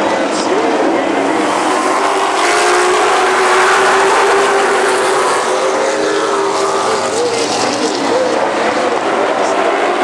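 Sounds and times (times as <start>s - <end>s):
stock cars racing past: 0.0s - 10.0s.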